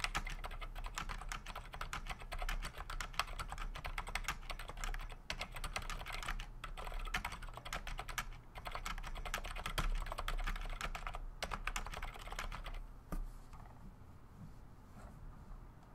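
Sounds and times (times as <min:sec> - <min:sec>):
mechanical keyboard typing: 0:00.0 - 0:12.8.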